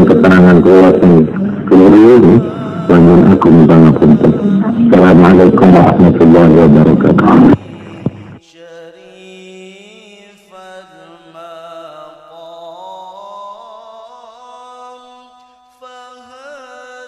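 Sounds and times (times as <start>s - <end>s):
solo voice chanting: 0.0s - 17.0s.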